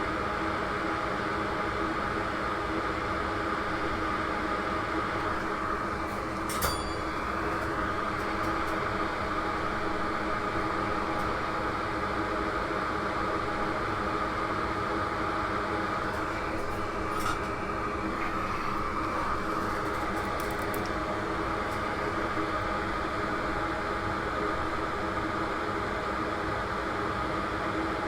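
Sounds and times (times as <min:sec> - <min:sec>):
electric fan whirring: 0:00.7 - 0:28.0.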